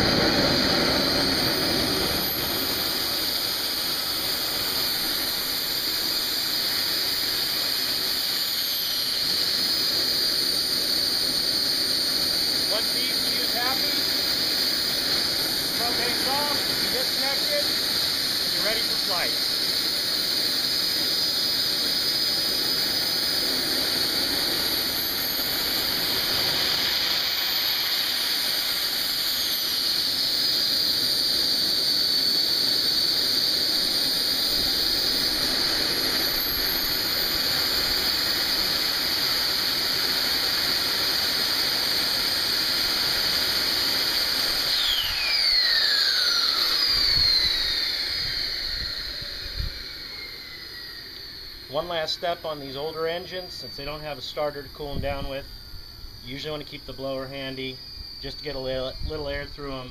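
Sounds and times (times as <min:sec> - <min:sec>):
jet turbine whine: 0:00.0 - 0:59.9
rushing exhaust hiss: 0:00.0 - 0:59.9.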